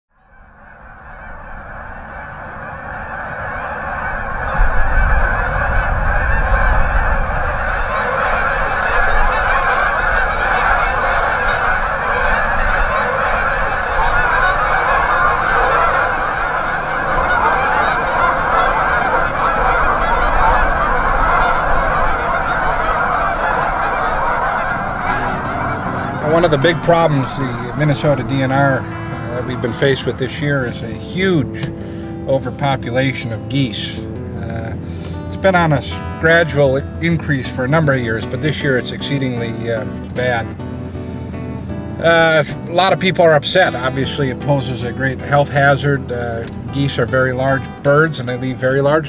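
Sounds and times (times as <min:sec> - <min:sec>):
geese honking: 0:00.1 - 0:49.0.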